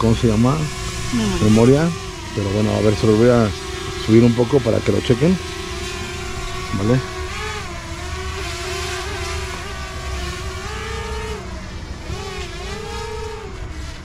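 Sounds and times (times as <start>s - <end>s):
drone propeller buzz: 0.0s - 14.0s.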